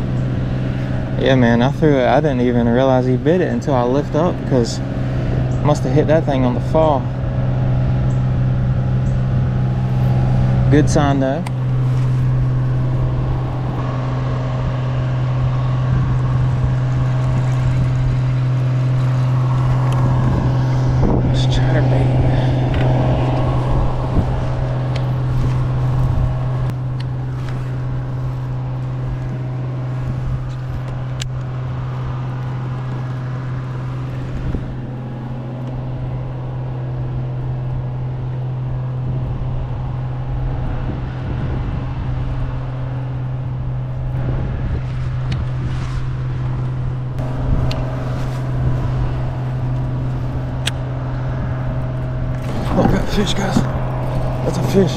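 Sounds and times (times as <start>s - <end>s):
steady low motor hum: 0.0s - 54.9s
wind: 0.0s - 54.9s.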